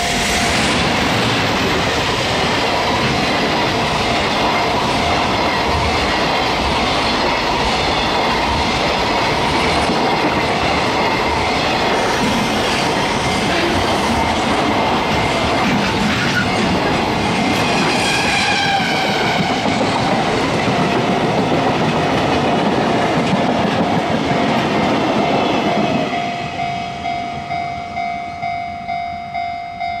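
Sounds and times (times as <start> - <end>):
level-crossing warning bell: 0.0 - 21.4, 23.8 - 30.0
freight train wheel and rail noise: 0.0 - 30.0.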